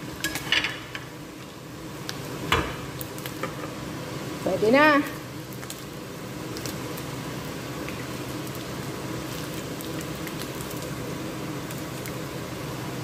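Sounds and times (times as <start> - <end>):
chicken frying in hot oil: 0.0 - 13.0
faint steady hum: 0.0 - 13.0.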